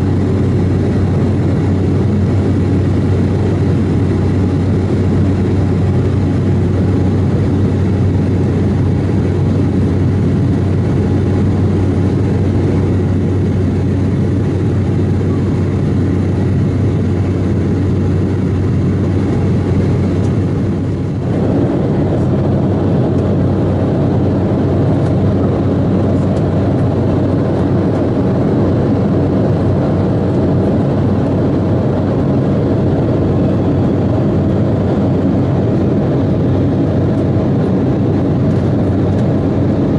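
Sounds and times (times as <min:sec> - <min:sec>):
airflow rush: 0:00.0 - 0:39.9
jet engine hum: 0:00.0 - 0:39.9.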